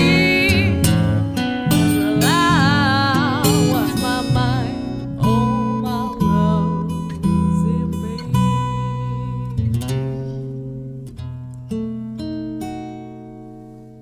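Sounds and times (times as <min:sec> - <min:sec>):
acoustic blues guitar: 0:00.0 - 0:14.0.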